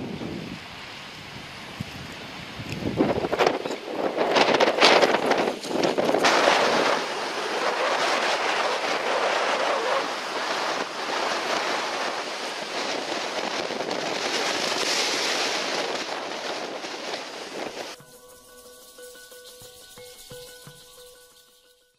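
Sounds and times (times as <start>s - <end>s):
surf on a beach: 0.0s - 18.0s
wind: 0.0s - 21.9s.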